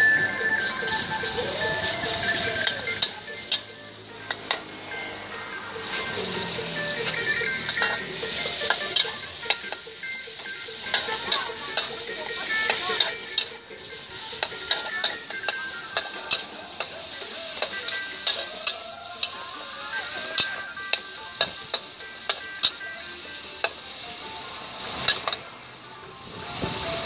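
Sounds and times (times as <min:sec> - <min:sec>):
metal spatula scraping wok: 0:00.0 - 0:25.5
pork sizzling in a wok: 0:00.0 - 0:27.0.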